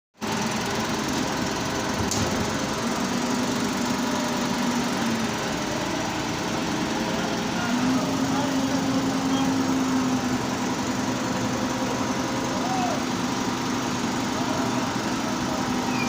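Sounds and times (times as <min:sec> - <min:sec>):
engine running: 0:00.2 - 0:16.0.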